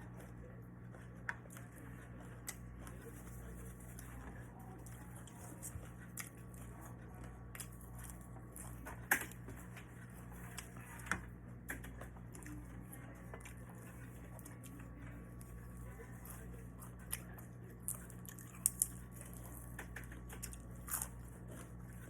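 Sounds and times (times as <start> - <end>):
person chewing: 0.9 - 10.7, 13.4 - 22.0.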